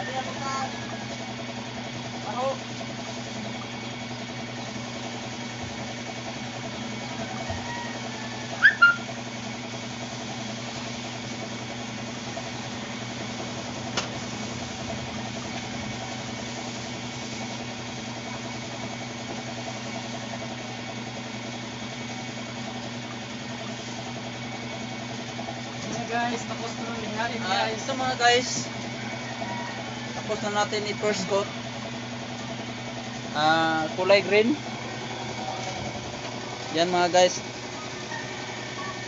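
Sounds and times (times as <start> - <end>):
air compressor running: 0.0 - 39.0.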